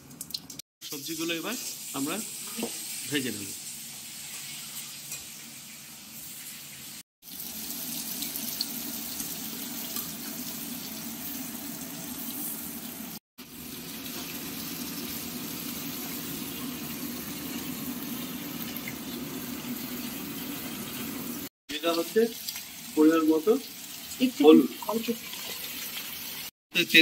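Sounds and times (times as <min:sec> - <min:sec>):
vegetables sizzling in hot oil: 0:00.8 - 0:27.0.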